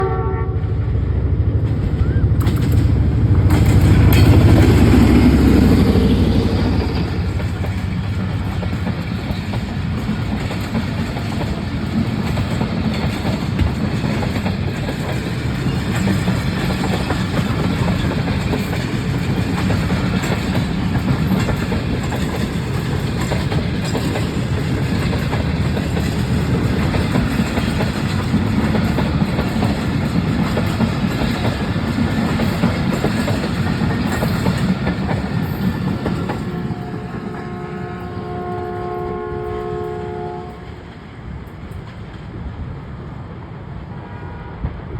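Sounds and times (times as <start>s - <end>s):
diesel locomotive engine: 0.0s - 44.9s
train coaches rumbling past: 0.0s - 44.9s
wheels clicking over rail joints: 1.6s - 38.8s.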